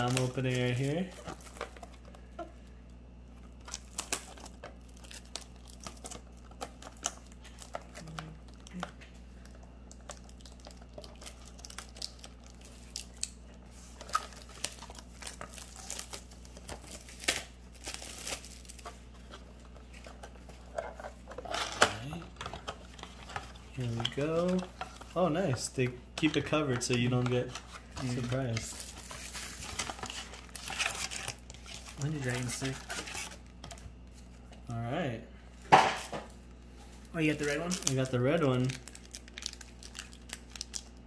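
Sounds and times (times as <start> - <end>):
plastic shrink-wrap crinkling: 0.0 - 34.8, 35.8 - 41.0.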